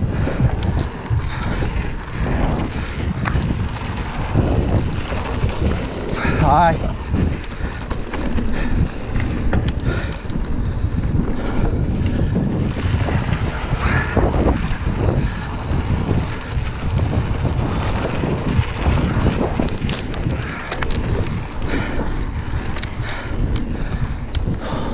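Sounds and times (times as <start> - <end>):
bike knocking and rattling: 0.0 - 24.9
bike tyres crunching on gravel: 0.0 - 24.9
wind buffeting microphone: 0.0 - 24.9.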